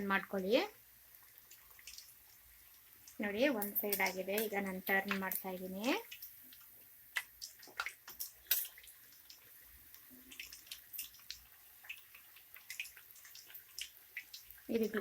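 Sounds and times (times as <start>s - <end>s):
chicken deep-frying in oil: 0.0s - 15.0s
oil crackling and popping: 0.8s - 15.0s.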